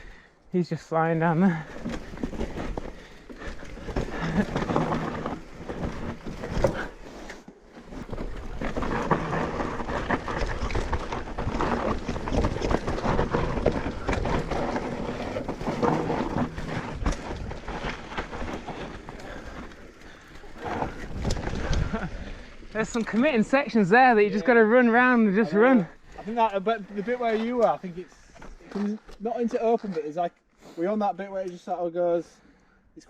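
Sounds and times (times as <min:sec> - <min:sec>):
bike rattling over rough ground: 0:00.8 - 0:30.2.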